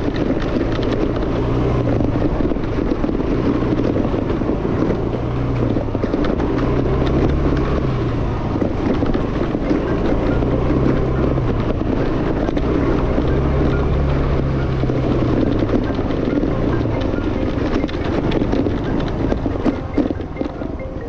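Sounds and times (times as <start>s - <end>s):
scooter engine running: 0.0s - 21.0s
wind on microphone: 0.0s - 21.0s.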